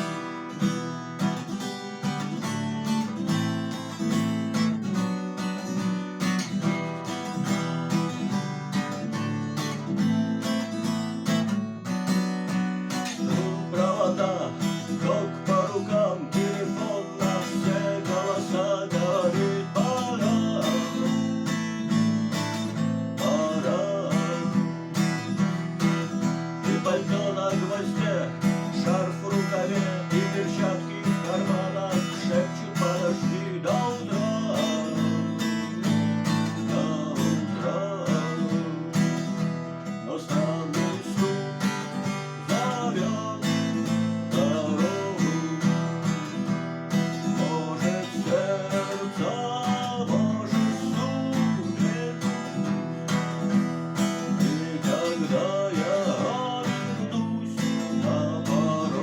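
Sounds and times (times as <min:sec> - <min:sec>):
acoustic guitar strumming chords: 0:00.0 - 0:59.0.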